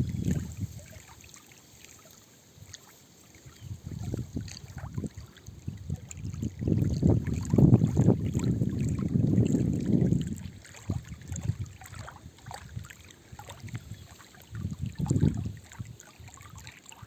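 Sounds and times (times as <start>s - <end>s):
wind buffeting microphone: 0.0s - 1.0s, 3.6s - 16.3s.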